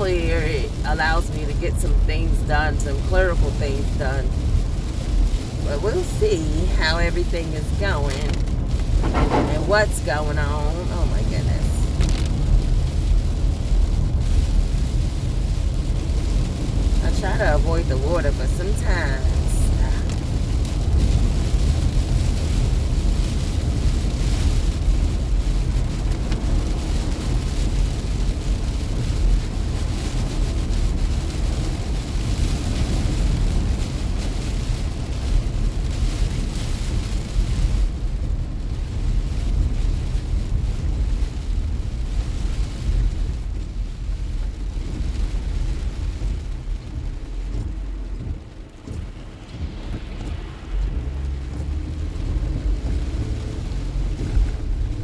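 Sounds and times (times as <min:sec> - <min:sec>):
tyres rumbling on road: 0:00.0 - 0:55.0.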